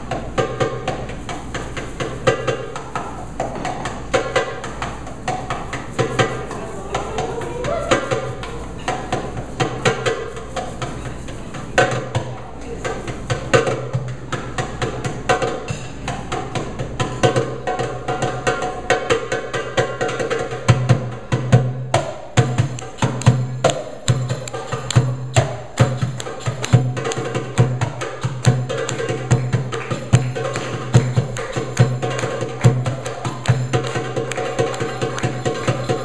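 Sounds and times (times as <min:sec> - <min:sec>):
goblet drum played by hand: 0:00.0 - 0:36.0.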